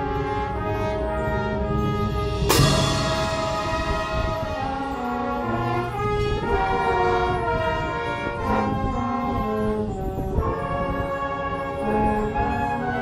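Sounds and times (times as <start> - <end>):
brass section playing slow melody: 0.0 - 13.0.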